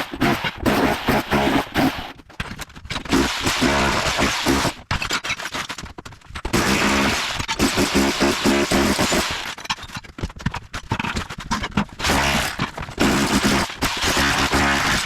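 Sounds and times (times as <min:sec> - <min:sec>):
clicks and scraping: 0:00.0 - 0:15.0.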